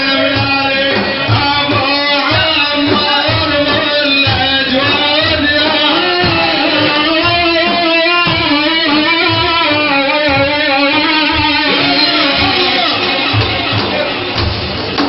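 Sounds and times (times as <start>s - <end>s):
low drum beats: 0.0s - 15.0s.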